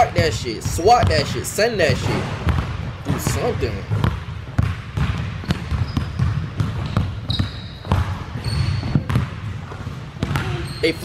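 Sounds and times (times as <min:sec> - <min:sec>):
basketball bouncing on wooden floor: 0:00.6 - 0:10.8.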